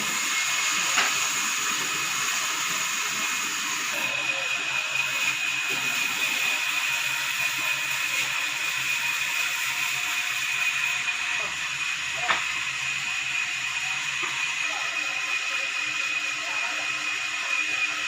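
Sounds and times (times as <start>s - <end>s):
sawmill saw whining: 0.0s - 18.0s.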